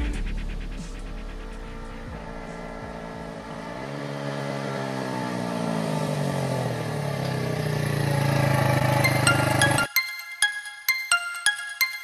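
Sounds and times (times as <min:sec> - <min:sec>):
motorcycle engine approaching: 0:00.0 - 0:09.9.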